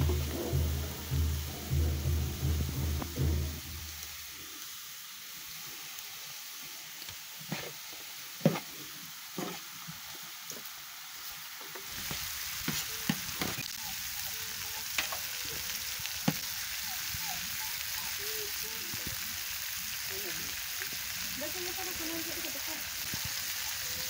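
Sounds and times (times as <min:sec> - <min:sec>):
meat grilling: 0:00.0 - 0:24.0
vegetables sizzling on griddle: 0:00.0 - 0:24.0.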